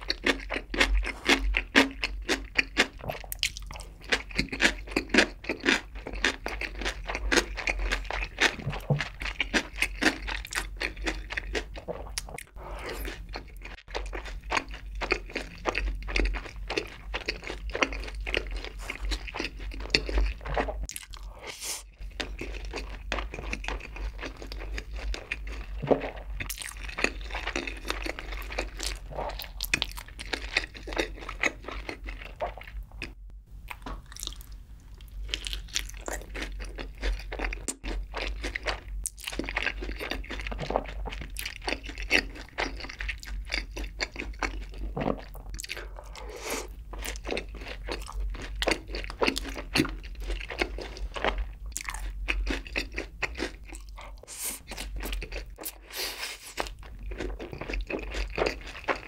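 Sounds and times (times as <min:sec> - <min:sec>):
chewing crunchy fried chicken: 0:00.0 - 0:59.0.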